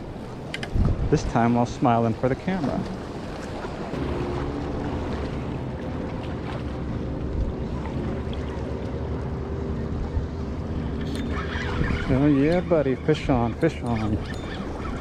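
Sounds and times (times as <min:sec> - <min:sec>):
motorboat engine drone: 0:00.0 - 0:15.0
wind rumbling on microphone: 0:00.0 - 0:15.0.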